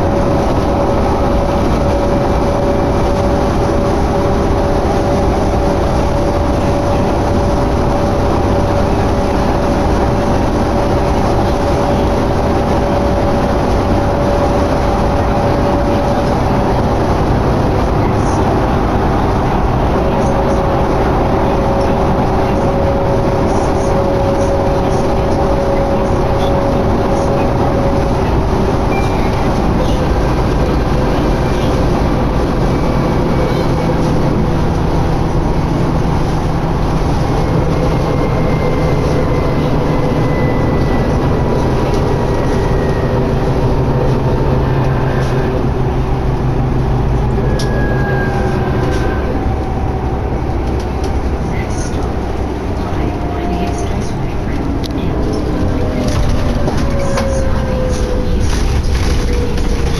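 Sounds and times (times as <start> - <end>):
bus engine drone: 0.0 - 59.9
constant hum: 0.0 - 59.9
road rumble: 0.0 - 59.9.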